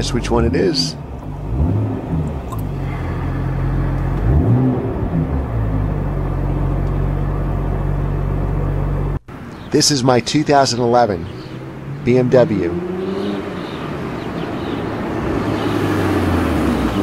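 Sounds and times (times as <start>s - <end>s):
car engine revving: 0.0s - 9.3s, 11.0s - 17.0s.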